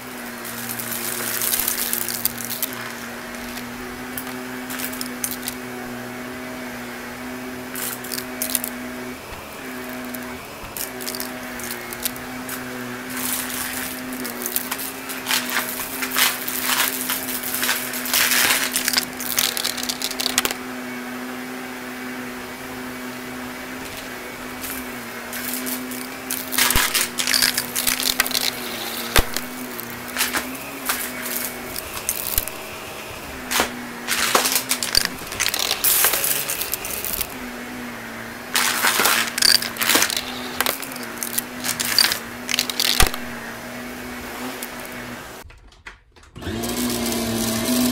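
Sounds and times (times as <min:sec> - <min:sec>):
debris rattling through vacuum nozzle: 0:00.0 - 0:20.6, 0:22.0 - 0:45.4
upright vacuum motor hum: 0:00.0 - 0:45.5, 0:46.4 - 0:47.9.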